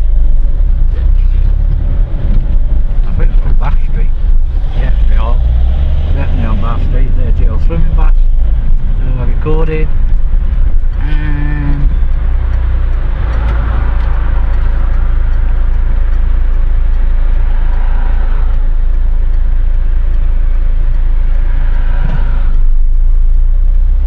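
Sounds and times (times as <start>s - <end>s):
motorcycle engine and road noise: 0.0s - 24.0s
wind rumble on microphone: 0.0s - 24.0s.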